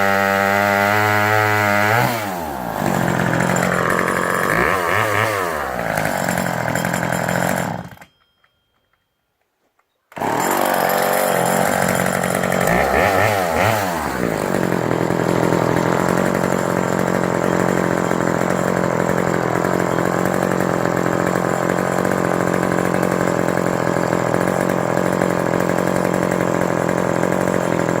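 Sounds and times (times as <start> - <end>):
chainsaw engine revving: 0.0 - 8.0, 10.1 - 28.0.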